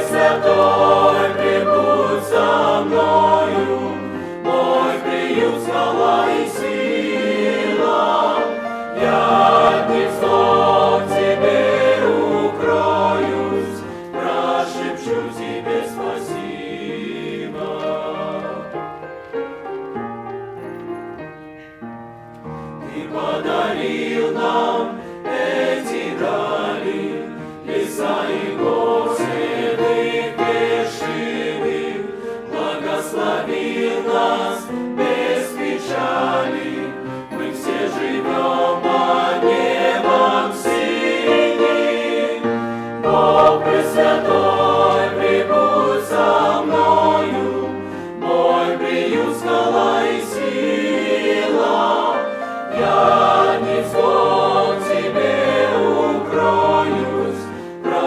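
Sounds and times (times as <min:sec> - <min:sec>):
choir singing a hymn: 0:00.0 - 0:20.4, 0:22.4 - 0:58.0.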